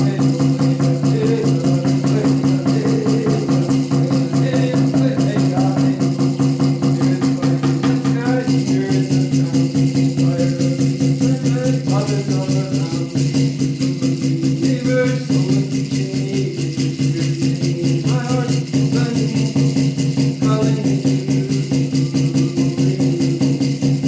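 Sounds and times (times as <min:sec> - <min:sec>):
hand drum beaten with stick: 0:00.0 - 0:24.0
man singing: 0:00.0 - 0:24.0.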